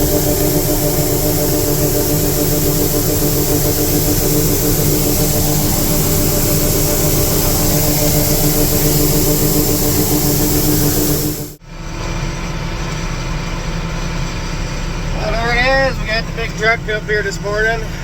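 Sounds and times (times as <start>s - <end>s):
machine drone with hiss: 0.0s - 18.0s.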